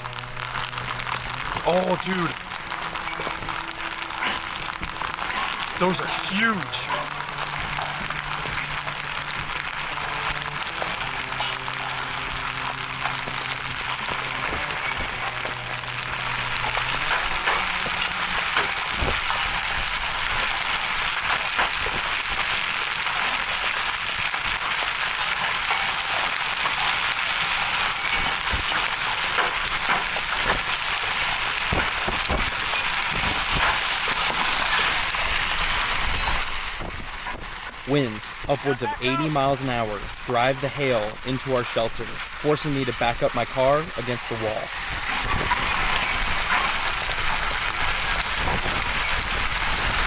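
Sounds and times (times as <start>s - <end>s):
hailstones cracking on hard surfaces: 0.0s - 50.0s
hailstones pounding down: 0.0s - 50.0s.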